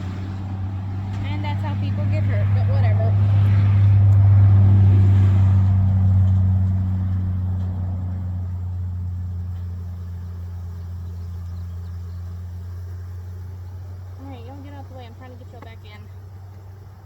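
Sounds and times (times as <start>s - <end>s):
vehicle engine hum passing: 0.0s - 17.0s.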